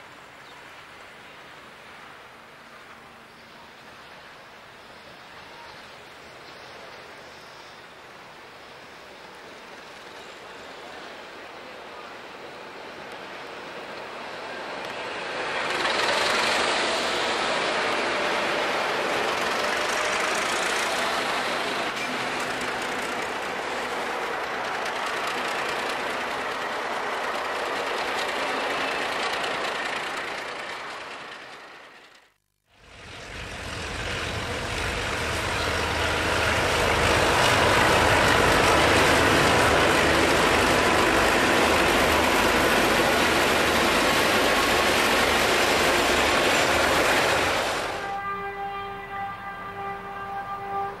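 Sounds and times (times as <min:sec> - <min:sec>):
freight train passing: 0:00.0 - 0:51.0
diesel locomotive engine running: 0:07.8 - 0:51.0.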